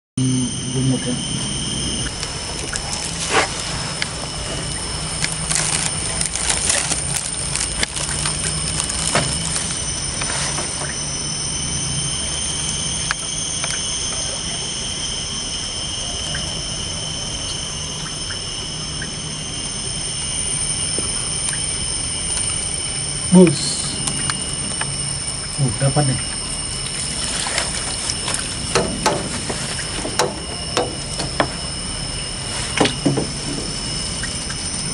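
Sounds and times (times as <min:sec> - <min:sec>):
high-pitched whine: 0:00.2 - 0:34.9
low hum: 0:00.2 - 0:34.9.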